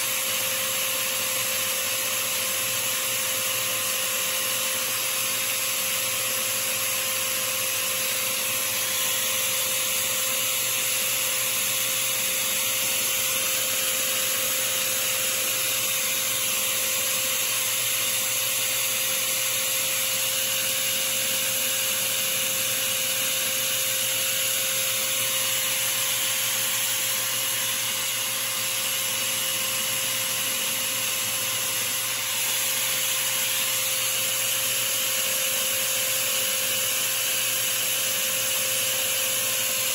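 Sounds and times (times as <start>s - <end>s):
power tool motor humming: 0.0s - 39.9s.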